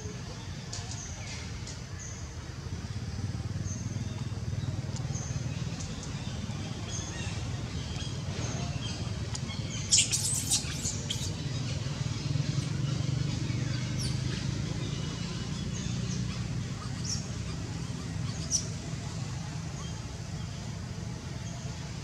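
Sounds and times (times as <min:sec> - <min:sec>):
birds chirping: 0:00.1 - 0:22.0.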